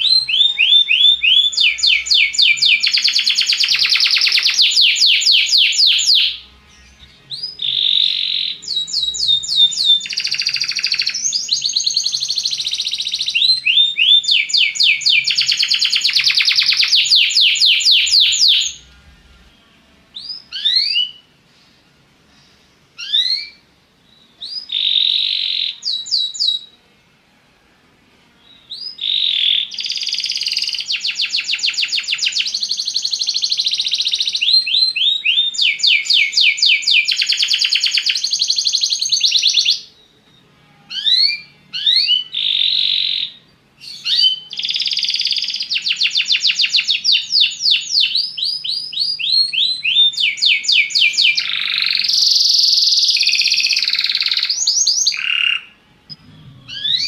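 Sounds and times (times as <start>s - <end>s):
canary singing trills: 0.0s - 21.4s, 23.0s - 26.8s, 28.4s - 57.0s.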